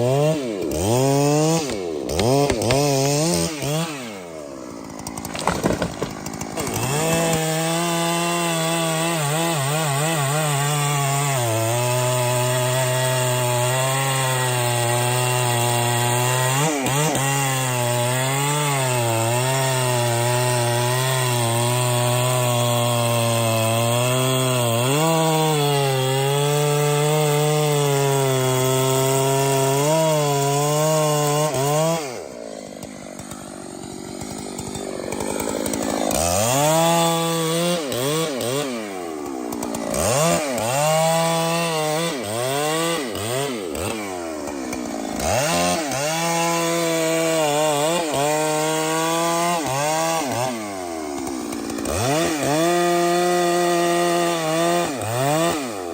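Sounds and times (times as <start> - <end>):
chainsaw cutting wood: 0.0 - 55.9
chainsaw revving: 0.0 - 55.9.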